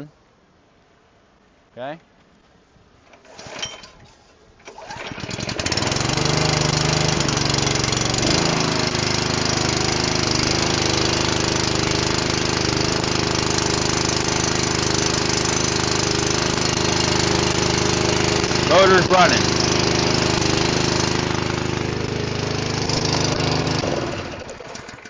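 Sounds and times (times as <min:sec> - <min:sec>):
small engine running: 0:04.6 - 0:25.0.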